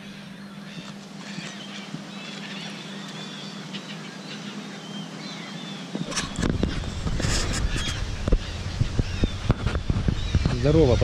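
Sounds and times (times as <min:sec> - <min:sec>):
flock of gulls calling: 0:00.0 - 0:11.0
steady low hum: 0:00.0 - 0:11.0.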